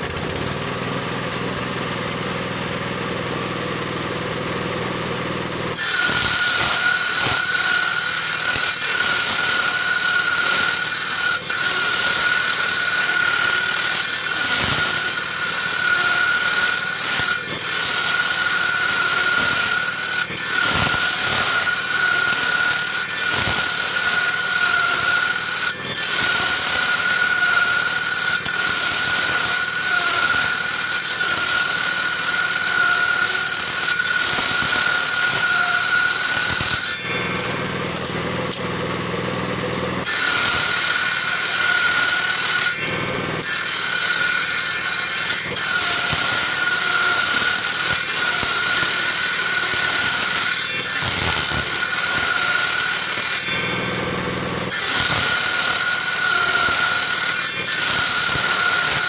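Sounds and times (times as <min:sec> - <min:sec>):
table saw ripping wood: 0:00.0 - 0:01.9, 0:05.2 - 0:59.0.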